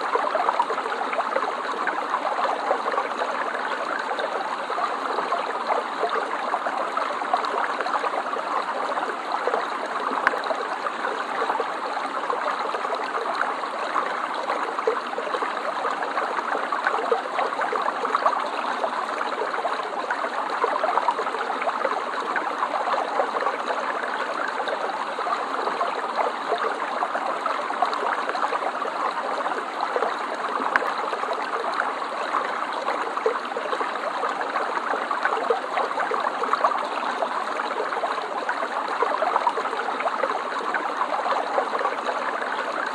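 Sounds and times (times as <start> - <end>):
stream water babbling: 0.0 - 42.9.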